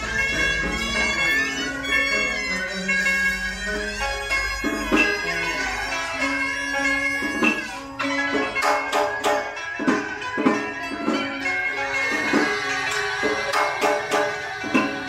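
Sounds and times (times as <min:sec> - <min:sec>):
percussion strikes: 0:00.0 - 0:15.0
reedy double-reed wind instrument: 0:00.0 - 0:15.0.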